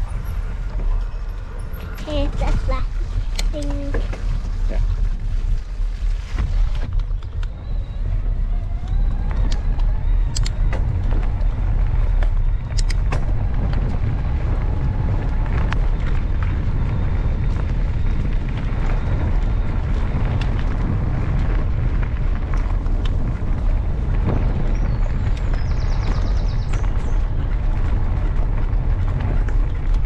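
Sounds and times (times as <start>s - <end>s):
bike clicks and rattles: 0.0s - 30.0s
bike ride noise: 0.0s - 30.0s
wind buffeting microphone: 0.0s - 30.0s.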